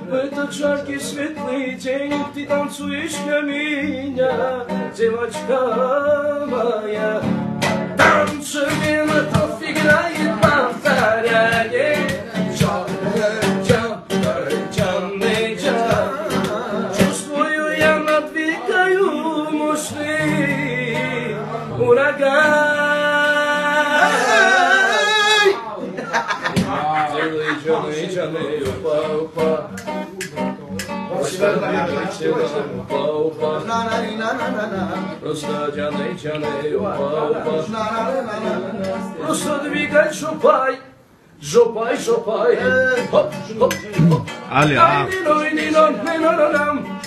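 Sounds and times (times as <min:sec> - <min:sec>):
classical guitar strumming: 0:00.0 - 0:25.6, 0:26.5 - 0:47.0
man singing: 0:00.0 - 0:25.7, 0:26.7 - 0:30.5, 0:31.1 - 0:47.0.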